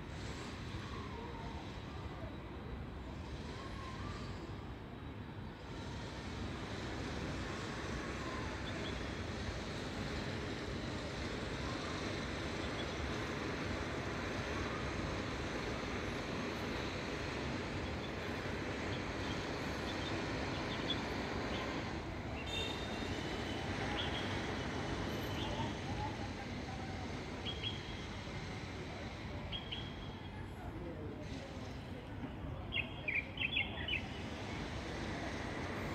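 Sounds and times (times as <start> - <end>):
distant traffic rumble: 6.2 - 35.9.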